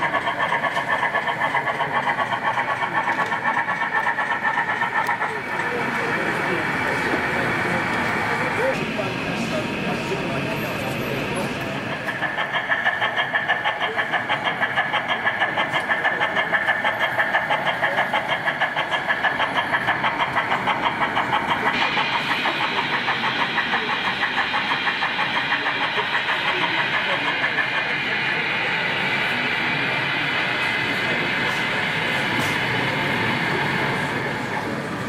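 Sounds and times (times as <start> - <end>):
model train locomotive running: 0.0 - 35.0.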